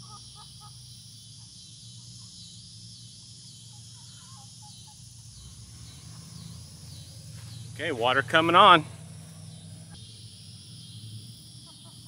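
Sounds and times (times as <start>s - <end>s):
insect chorus: 0.0s - 12.0s
low steady hum: 0.0s - 12.0s.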